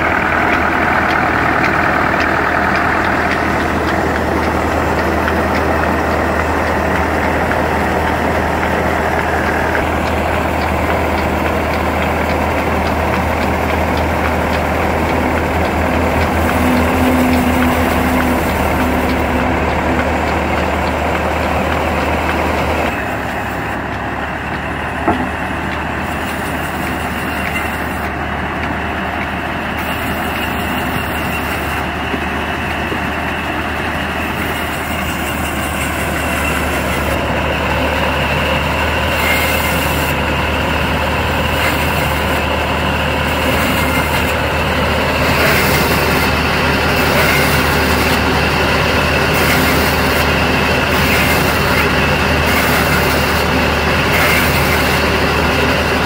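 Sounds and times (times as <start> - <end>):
band saw cutting wood: 0.0 - 56.0
tractor diesel engine running: 0.0 - 56.0.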